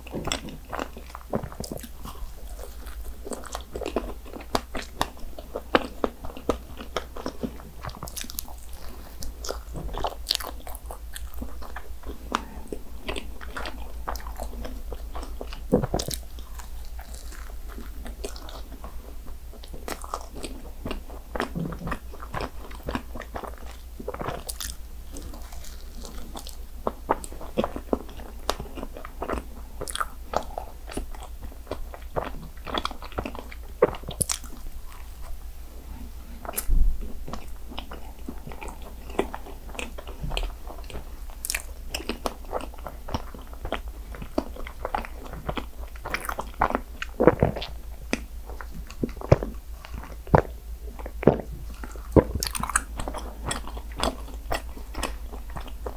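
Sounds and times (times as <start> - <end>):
chewing crunchy pastry: 0.0 - 55.9.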